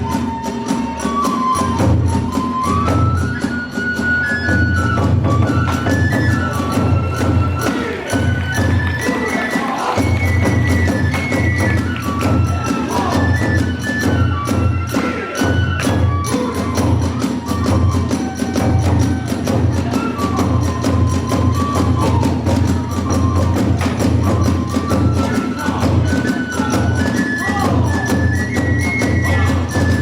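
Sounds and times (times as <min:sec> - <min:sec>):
bamboo flute melody: 0:00.0 - 0:30.0
drums beating: 0:00.0 - 0:30.0.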